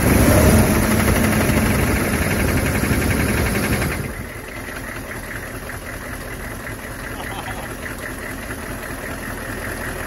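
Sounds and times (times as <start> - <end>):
diesel engine knocking: 0.0 - 10.0.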